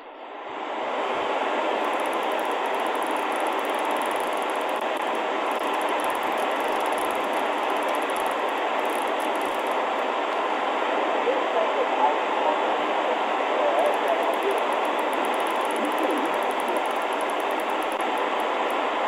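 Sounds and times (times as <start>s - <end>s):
shortwave radio static: 0.0s - 19.0s.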